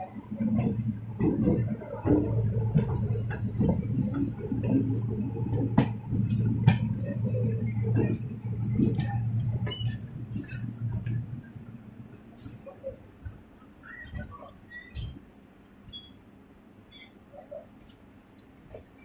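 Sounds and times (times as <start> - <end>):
train wheels rumbling on rails: 0.0 - 15.4
wheels and couplings clanking: 0.0 - 16.2.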